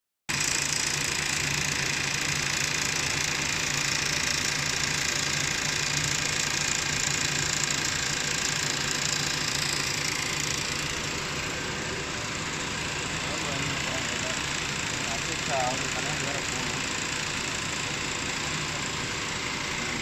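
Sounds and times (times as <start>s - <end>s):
sewing machine running: 0.3s - 20.0s.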